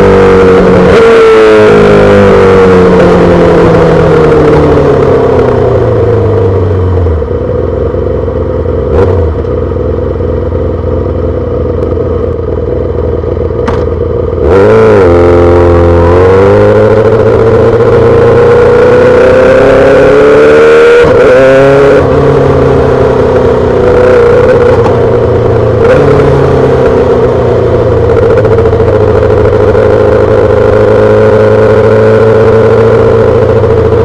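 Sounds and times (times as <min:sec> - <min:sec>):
motorcycle engine: 0:00.0 - 0:34.0.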